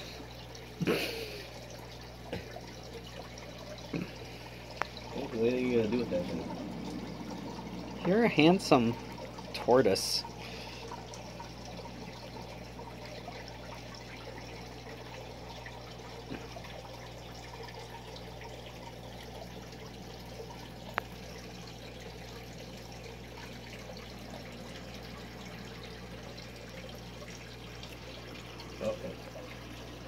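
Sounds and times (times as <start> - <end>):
low hiss and hum: 0.0 - 30.0.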